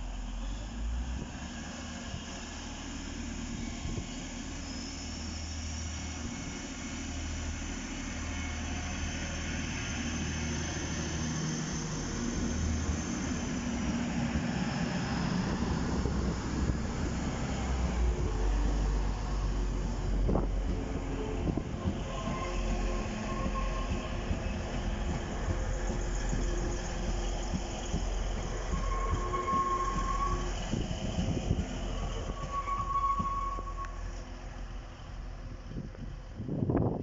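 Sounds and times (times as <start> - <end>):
diesel train engines rumbling: 0.0 - 37.0.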